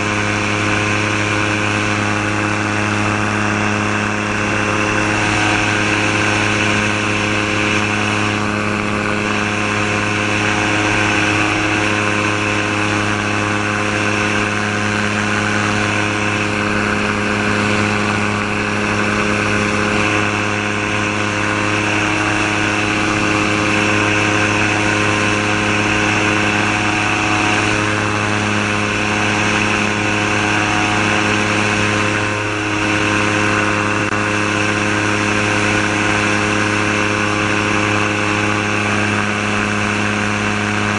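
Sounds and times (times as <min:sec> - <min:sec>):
gyrocopter engine and propeller: 0:00.0 - 0:40.9.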